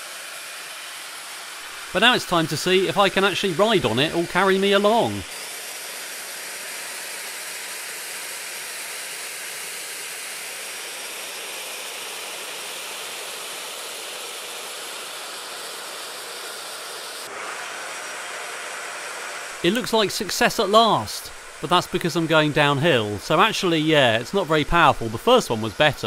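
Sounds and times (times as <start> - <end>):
fans blowing rushing hiss: 0.0 - 26.0.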